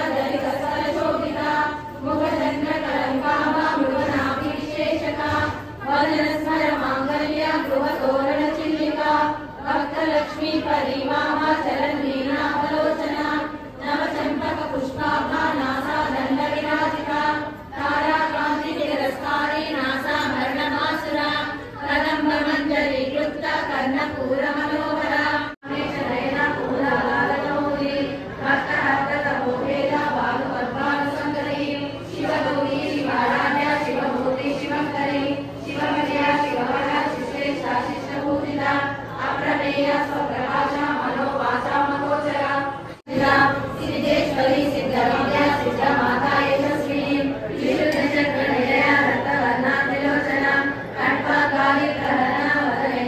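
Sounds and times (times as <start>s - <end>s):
women chanting in unison: 0.0s - 53.0s.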